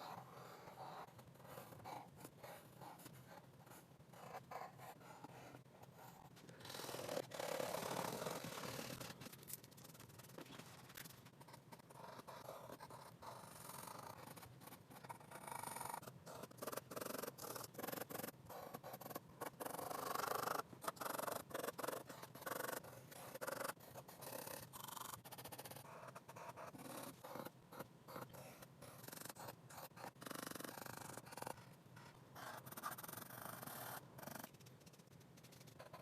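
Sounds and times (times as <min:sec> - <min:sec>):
pencil sketching on paper: 0:00.0 - 0:09.4, 0:11.1 - 0:36.0.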